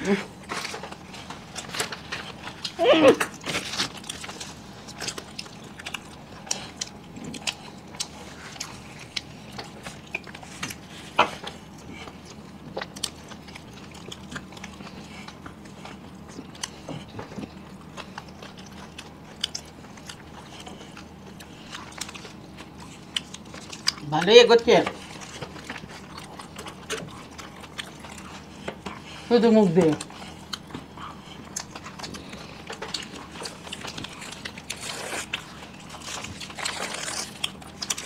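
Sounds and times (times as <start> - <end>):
people chewing food: 0.0 - 38.0.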